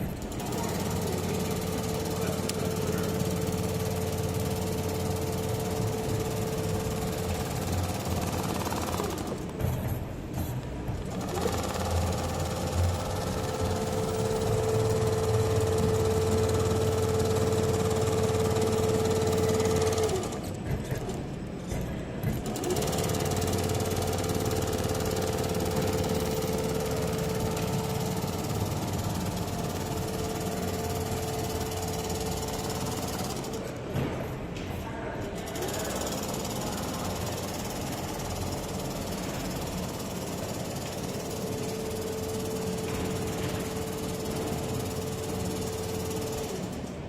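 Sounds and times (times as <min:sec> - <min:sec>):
stitching machine needle hammering: 0:00.0 - 0:34.4, 0:35.2 - 0:47.0.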